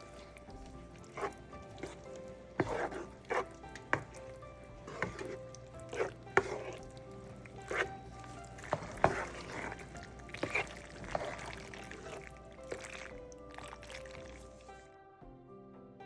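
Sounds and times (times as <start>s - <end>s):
background music with held notes: 0.0s - 16.0s.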